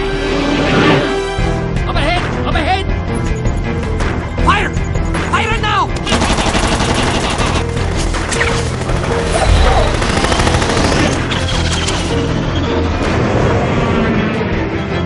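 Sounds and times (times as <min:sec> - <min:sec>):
orchestral music: 0:00.0 - 0:15.0.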